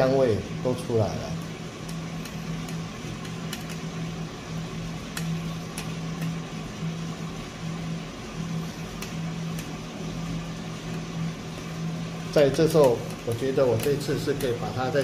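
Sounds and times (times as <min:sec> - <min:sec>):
coffee roaster fan whir: 0:00.0 - 0:15.0.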